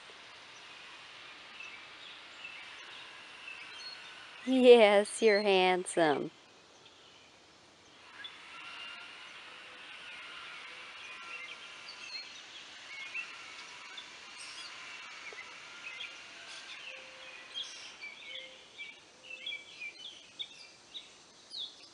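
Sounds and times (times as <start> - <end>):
faint outdoor background: 0.0 - 21.9
birds chirping: 0.4 - 21.9.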